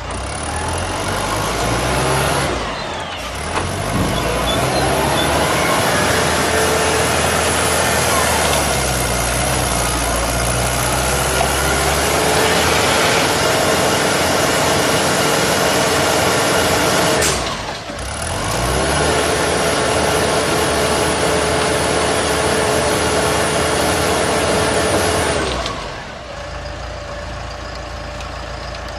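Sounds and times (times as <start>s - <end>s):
diesel engine running under load: 0.0s - 28.9s.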